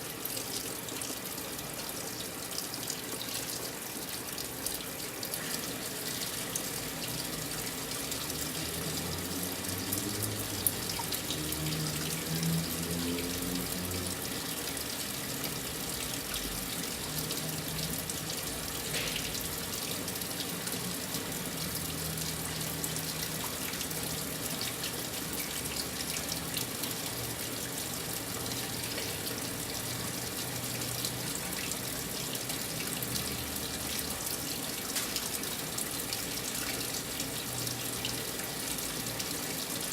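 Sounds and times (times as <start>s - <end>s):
water running into washing machine: 0.0s - 39.9s.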